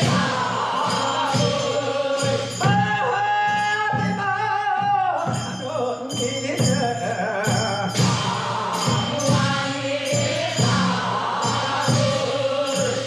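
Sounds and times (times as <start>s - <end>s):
group of voices singing: 0.0s - 4.4s, 6.6s - 13.0s
regular drum beats: 0.0s - 13.0s.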